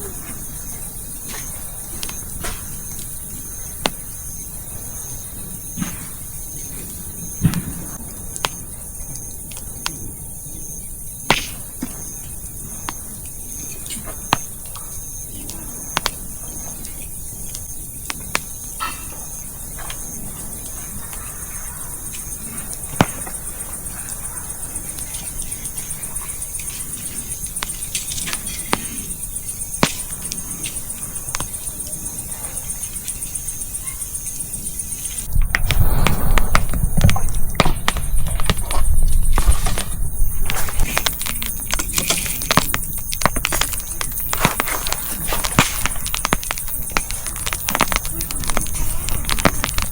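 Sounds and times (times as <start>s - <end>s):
crickets chirping: 0.0s - 49.9s
campfire crackling and popping: 0.5s - 20.5s, 24.8s - 32.0s, 35.1s - 49.9s.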